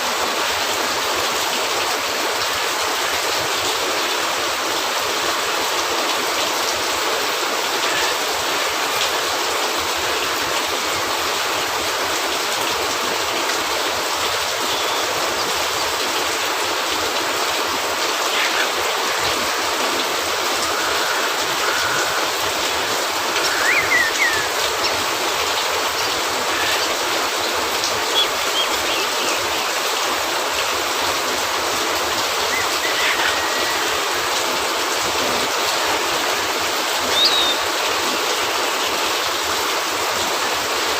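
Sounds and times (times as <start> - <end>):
rain on a roof: 0.0 - 40.9.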